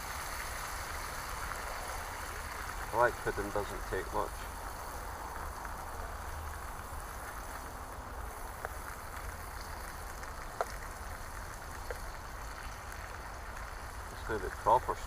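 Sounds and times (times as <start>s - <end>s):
faint sharp crackles: 0.0s - 15.0s
food sizzling in a pan: 0.0s - 15.0s.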